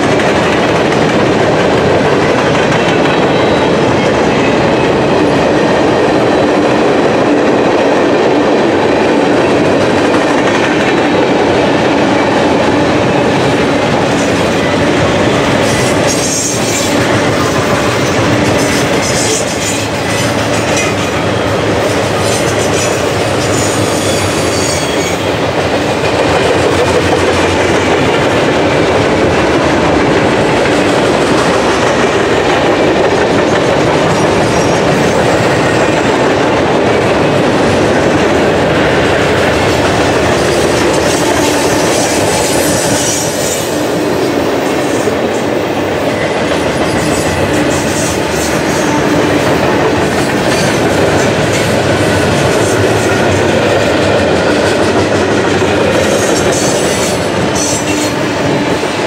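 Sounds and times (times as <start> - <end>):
freight train rumble: 0.0 - 59.0.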